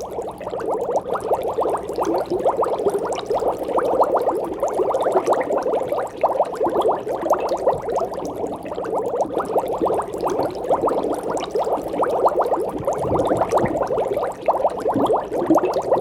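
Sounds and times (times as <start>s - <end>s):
aquarium water bubbling: 0.0s - 16.0s.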